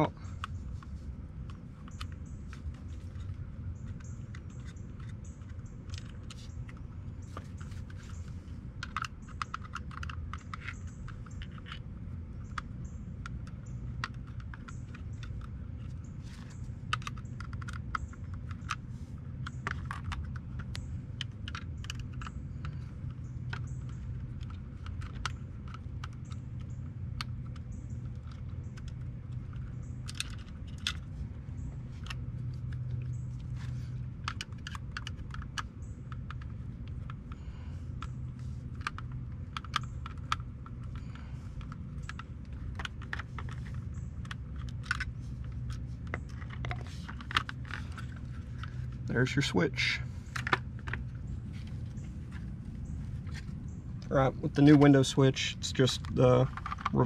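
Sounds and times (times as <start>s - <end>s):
plastic parts clicking: 0.0s - 57.0s
steady low hum: 0.0s - 57.0s.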